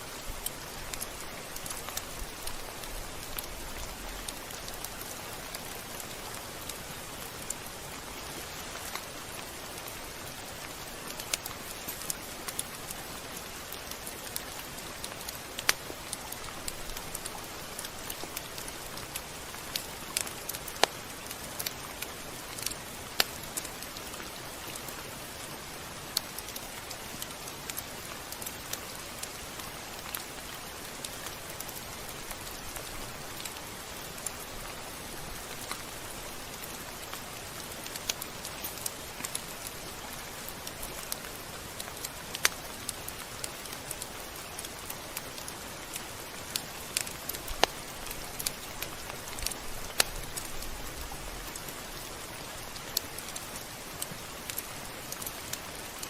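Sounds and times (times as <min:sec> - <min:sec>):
rain falling: 0:00.0 - 0:56.0
raindrop ticks: 0:00.1 - 0:56.0.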